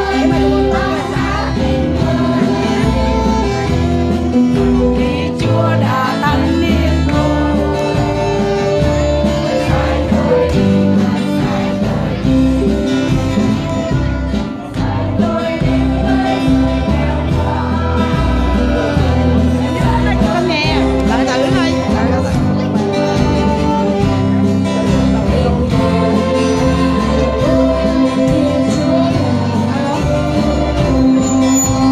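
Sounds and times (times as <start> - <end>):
children's choir singing: 0.0 - 21.9, 22.9 - 31.9
instrumental accompaniment: 0.0 - 31.9.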